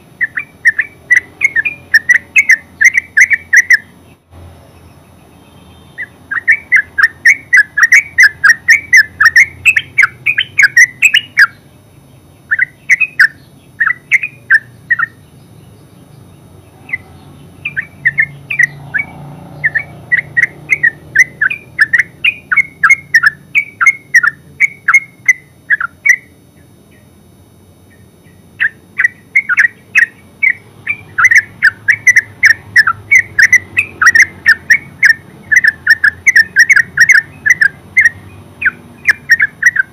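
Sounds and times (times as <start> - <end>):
bird chattering song: 0.0 - 27.2, 27.9 - 39.9.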